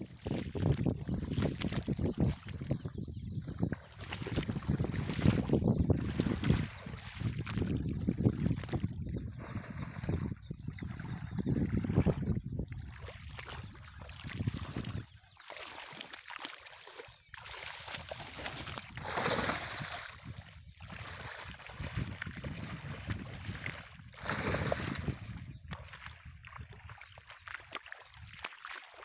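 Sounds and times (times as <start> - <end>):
fish splashing in shallow water: 0.0 - 29.0.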